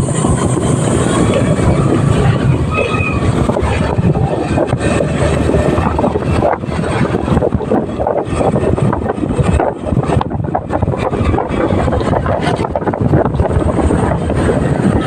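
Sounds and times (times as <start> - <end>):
motorcycle engine rumble: 0.0 - 15.0
road noise: 0.0 - 15.0
wind buffeting microphone: 0.0 - 15.0.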